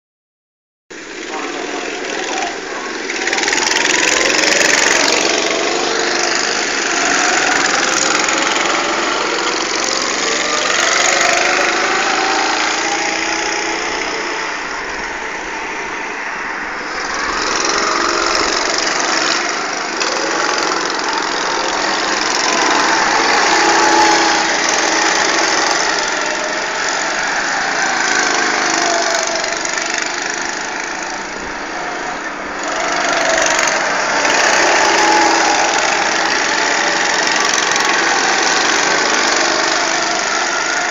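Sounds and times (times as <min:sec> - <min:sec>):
go-kart engines revving: 0:01.0 - 0:40.9.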